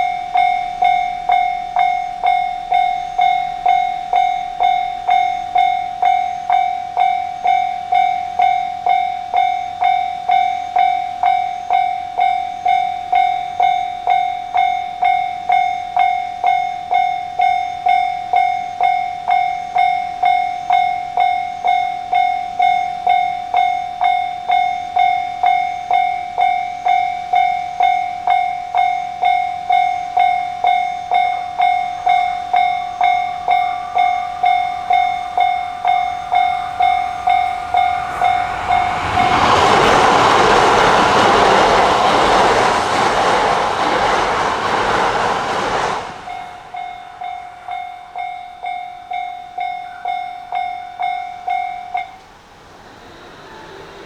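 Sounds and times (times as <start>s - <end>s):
railroad crossing alarm clanging: 0.0s - 54.0s.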